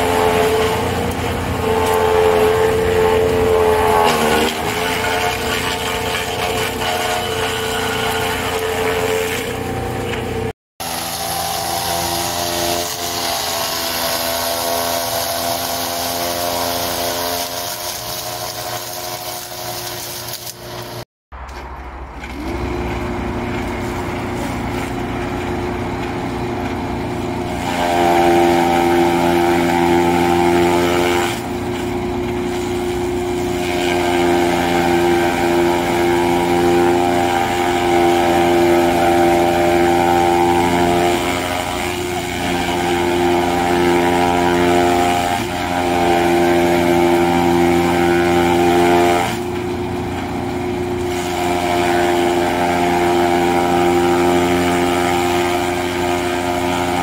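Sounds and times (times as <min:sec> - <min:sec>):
chaff cutter chopping stalks: 0:00.0 - 0:57.0.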